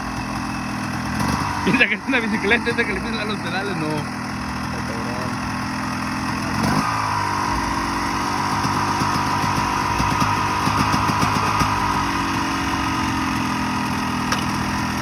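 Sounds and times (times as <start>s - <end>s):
motorcycle engine idling: 0.0s - 15.0s
motorcycle throttle revs: 0.0s - 15.0s.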